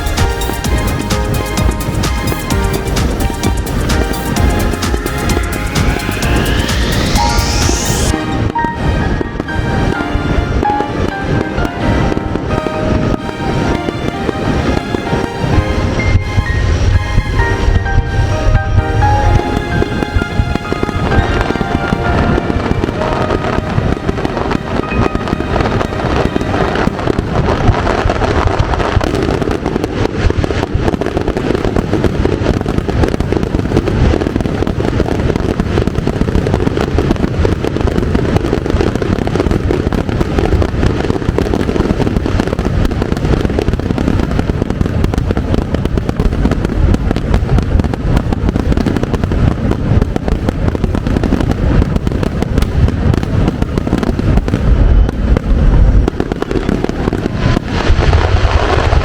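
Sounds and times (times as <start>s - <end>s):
deep fireworks booms: 0.0s - 59.0s
fireworks bangs and crackling: 0.0s - 59.0s.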